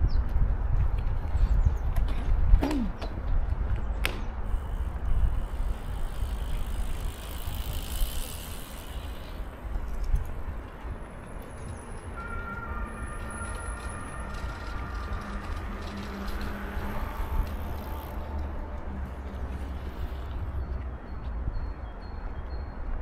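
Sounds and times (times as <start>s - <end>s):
low traffic rumble: 0.0s - 23.0s
vehicles passing: 0.0s - 23.0s.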